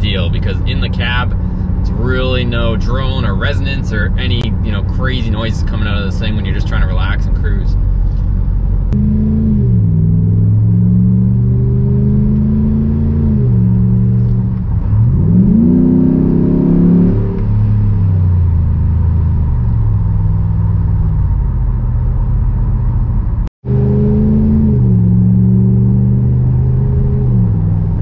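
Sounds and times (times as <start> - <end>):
truck exhaust note while driving: 0.0 - 28.0.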